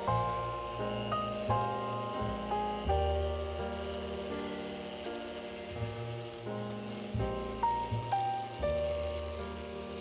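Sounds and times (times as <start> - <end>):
background music melody: 0.0 - 10.0.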